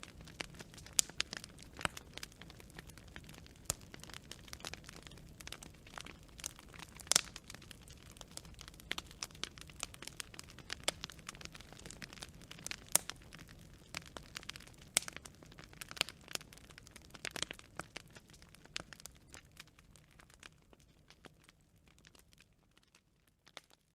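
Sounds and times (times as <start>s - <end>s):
burning branches popping: 0.0s - 23.7s.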